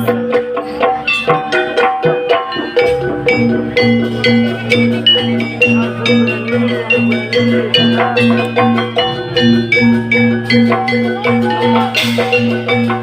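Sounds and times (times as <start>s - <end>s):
drums: 0.0s - 13.0s
metallophones ringing: 0.0s - 13.0s.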